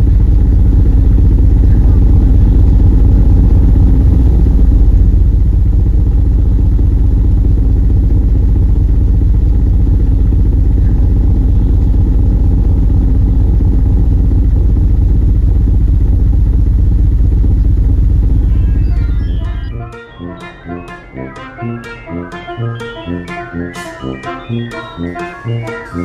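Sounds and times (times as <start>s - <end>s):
noise music low drone: 0.0s - 26.0s.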